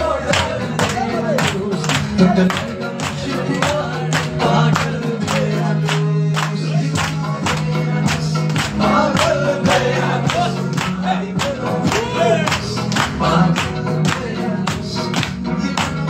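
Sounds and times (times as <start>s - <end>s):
hands clapping: 0.0s - 16.0s
men singing: 0.0s - 16.0s.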